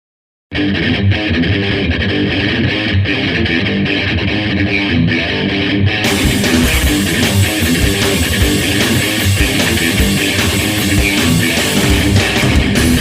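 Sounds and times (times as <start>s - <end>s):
guitar and bass music: 0.5s - 13.0s.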